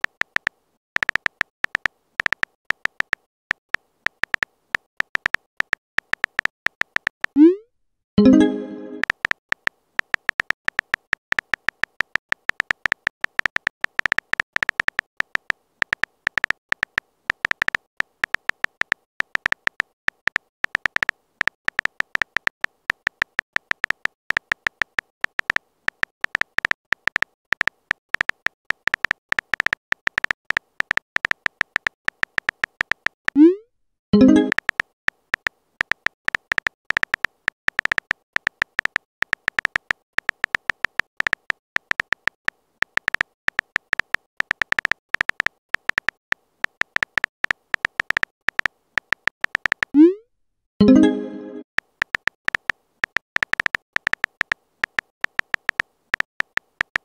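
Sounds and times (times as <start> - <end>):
phone keyboard typing clicks: 0.0 - 7.6, 8.2 - 33.6, 34.2 - 50.1, 50.8 - 57.0.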